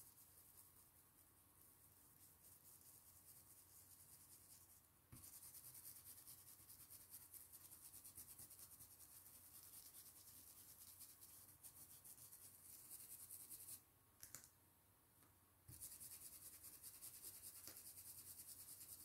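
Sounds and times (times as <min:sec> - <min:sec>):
stencil brush scrubbing fabric: 0:00.0 - 0:13.8, 0:15.7 - 0:19.0.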